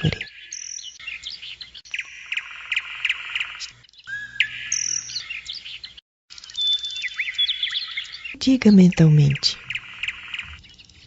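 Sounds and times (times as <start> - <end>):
birds chirping and singing: 0.0 - 11.0
fast bird trill: 0.0 - 11.0.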